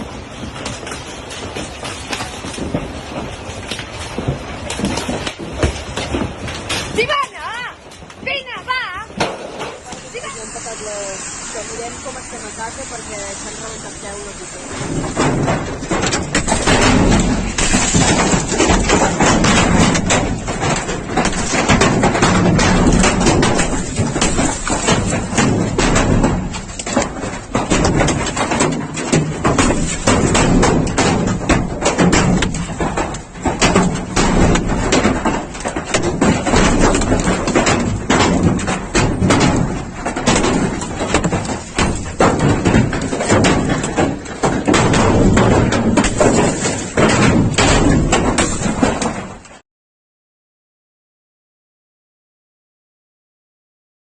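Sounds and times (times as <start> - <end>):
hailstones pelting down: 0.0 - 49.6.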